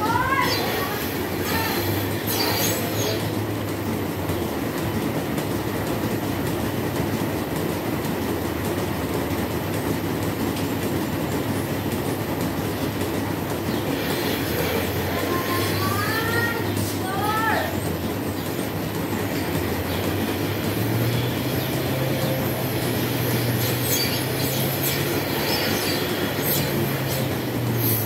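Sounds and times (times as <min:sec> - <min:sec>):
milking machinery rumble and hum: 0:00.0 - 0:28.0.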